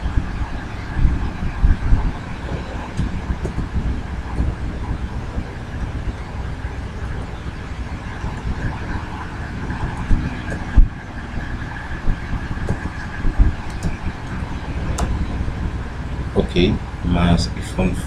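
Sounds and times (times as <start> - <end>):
faint steady whine: 0.0 - 18.0
low rumbling background noise: 0.0 - 18.0.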